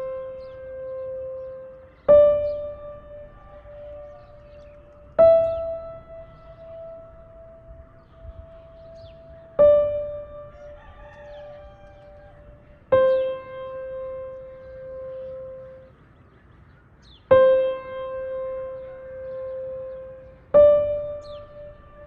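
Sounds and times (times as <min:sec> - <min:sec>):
slow piano notes: 0:00.0 - 0:16.2, 0:17.2 - 0:22.0.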